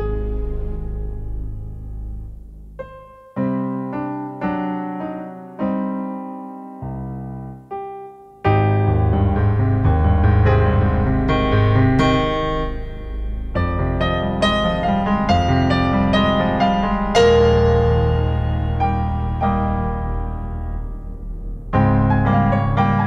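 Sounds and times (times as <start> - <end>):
piano notes and chords: 0.0 - 23.0.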